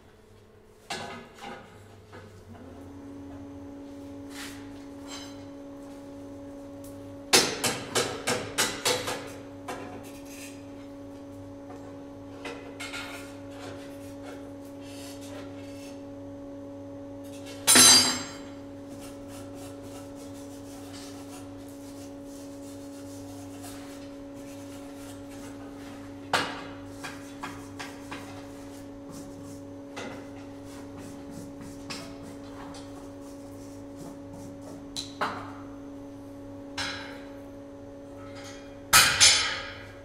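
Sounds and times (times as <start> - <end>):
mechanical hum: 0.0 - 40.0.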